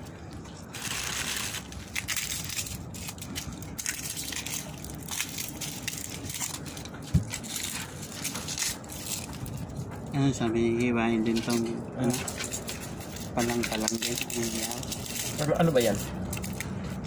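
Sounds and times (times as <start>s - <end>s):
plastic bags crinkling: 0.0s - 10.1s, 11.2s - 17.0s.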